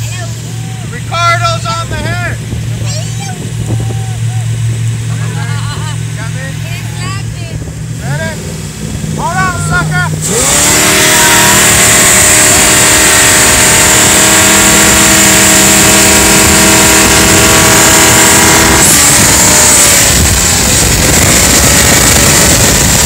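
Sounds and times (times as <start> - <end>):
jet boat engine at high throttle: 0.0 - 23.0
rush of wind and spray: 0.0 - 23.0.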